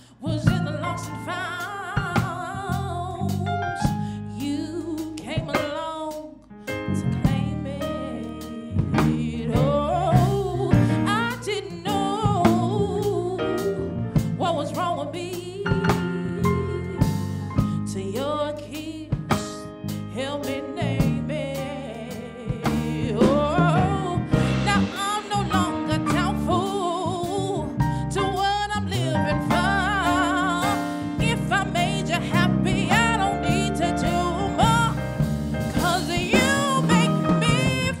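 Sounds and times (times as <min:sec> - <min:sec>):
instrumental accompaniment: 0:06.5 - 0:38.0.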